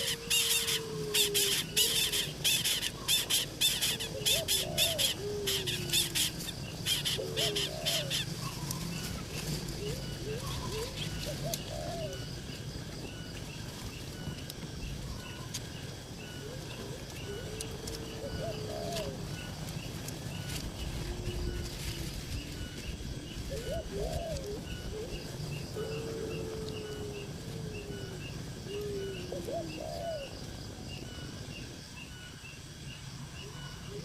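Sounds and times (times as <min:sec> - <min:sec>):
birds cooing: 0:00.0 - 0:31.4.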